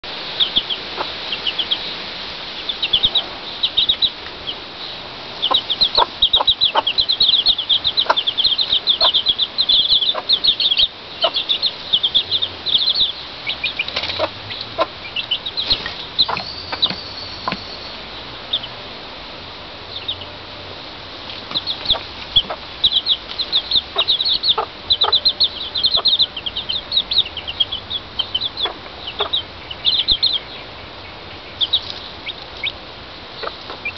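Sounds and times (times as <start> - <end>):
chicks peeping: 0.3 - 18.8, 19.9 - 20.4, 21.2 - 33.9
hen clucking: 0.4 - 1.9, 2.6 - 4.6, 5.4 - 17.8, 21.3 - 33.9.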